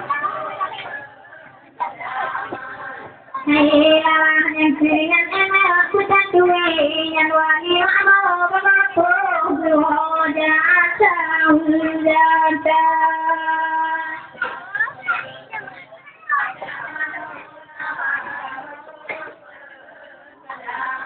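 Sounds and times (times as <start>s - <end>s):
high voice singing a chant: 0.0s - 15.2s, 16.4s - 21.0s.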